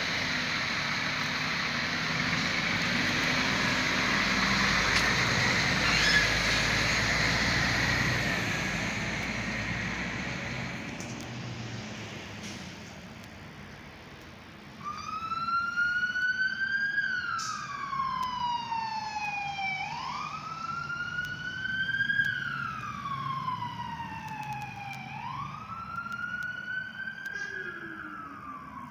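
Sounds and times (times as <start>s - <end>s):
fire engine siren wailing: 0.0s - 12.2s, 14.8s - 28.9s.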